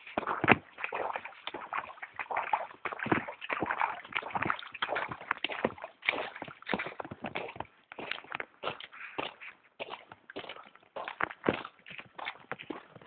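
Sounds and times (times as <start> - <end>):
footsteps on wet grass: 0.0 - 13.0.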